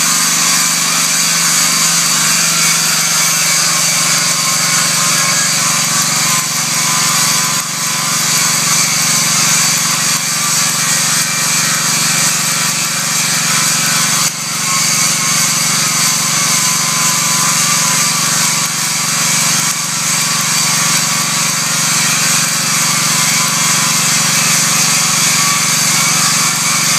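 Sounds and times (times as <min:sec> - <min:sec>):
welding arc crackling and hissing: 0:00.0 - 0:26.9.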